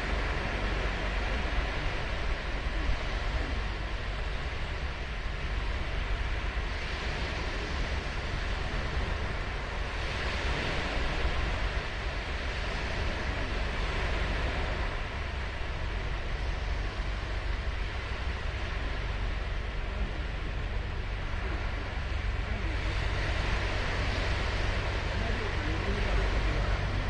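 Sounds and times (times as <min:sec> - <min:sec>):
ocean surf breaking on beach: 0:00.0 - 0:27.0
wind rumble on microphone: 0:00.0 - 0:27.0.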